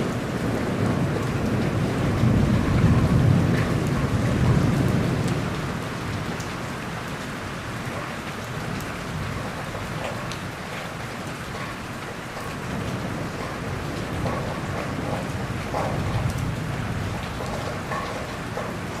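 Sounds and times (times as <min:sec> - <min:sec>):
steady rain falling: 0:00.0 - 0:19.0
thunder rumbling: 0:00.0 - 0:19.0.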